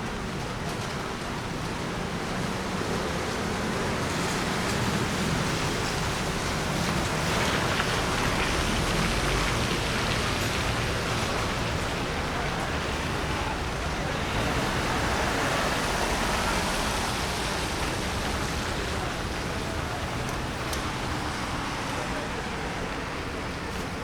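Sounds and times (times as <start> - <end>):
rain falling on street: 0.0 - 24.0
traffic hiss on wet pavement: 0.0 - 24.0.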